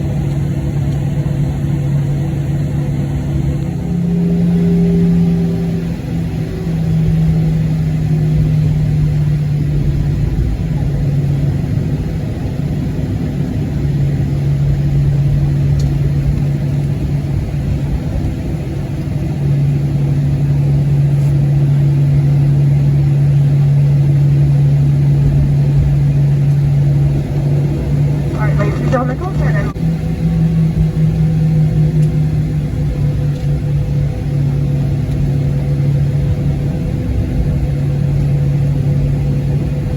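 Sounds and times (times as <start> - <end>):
aircraft cabin low hum: 0.0 - 39.9.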